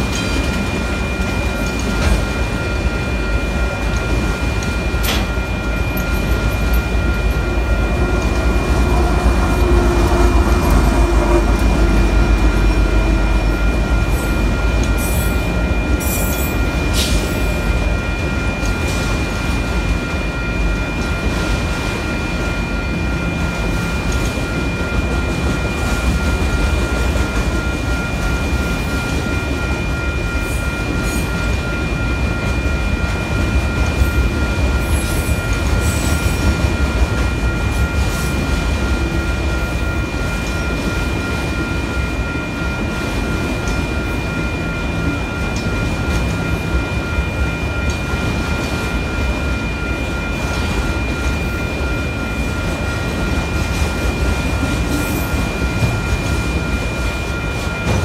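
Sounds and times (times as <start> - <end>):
crossing warning bell ringing: 0.0 - 58.0
steel wheels rumbling on rails: 0.0 - 58.0.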